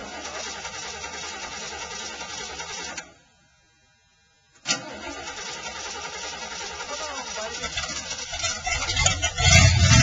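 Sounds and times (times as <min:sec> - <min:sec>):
engine starter cranking: 0:00.0 - 0:03.1, 0:04.6 - 0:10.0.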